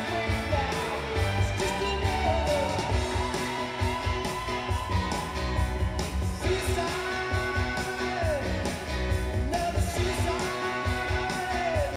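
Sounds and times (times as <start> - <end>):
rock music with singer and guitar: 0.0 - 11.9.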